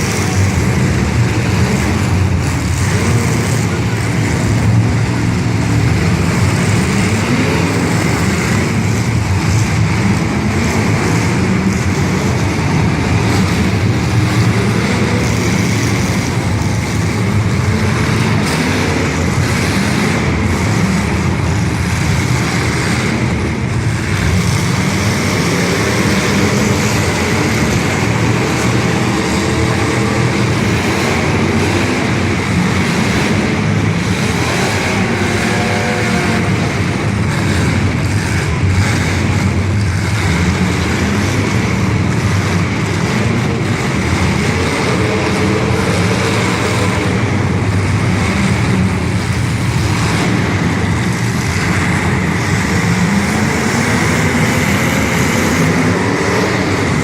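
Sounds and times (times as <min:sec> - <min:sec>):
loud car engines running: 0:00.0 - 0:57.0.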